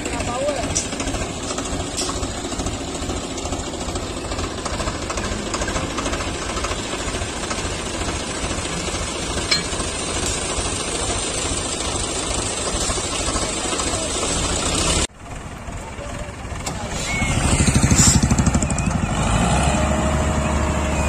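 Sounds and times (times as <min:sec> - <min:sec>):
tractor diesel engine clattering: 0:00.0 - 0:21.0.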